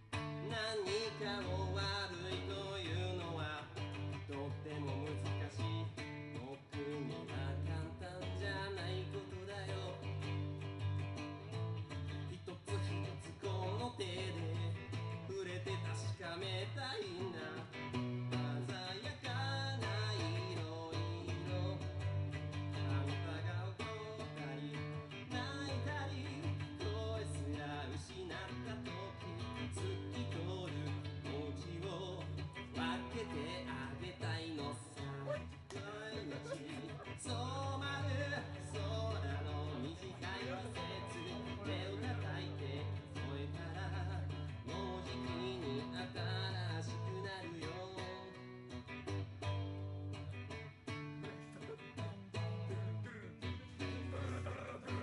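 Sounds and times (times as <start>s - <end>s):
semi-acoustic guitar: 0.0s - 55.0s.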